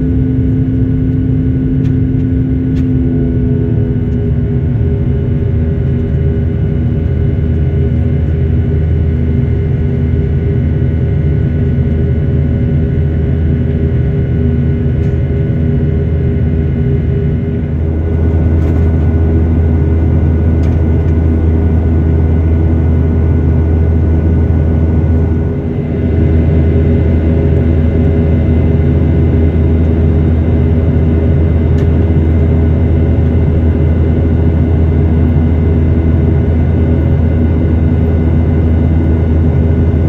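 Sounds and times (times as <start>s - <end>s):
jet engines droning in cabin: 0.0s - 40.0s.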